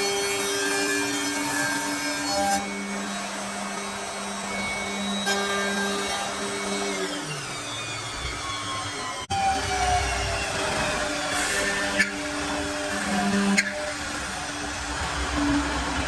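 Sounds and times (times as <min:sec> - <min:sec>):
cutters rasping on wood: 0:00.0 - 0:16.0
lathe motor whine: 0:00.0 - 0:16.0.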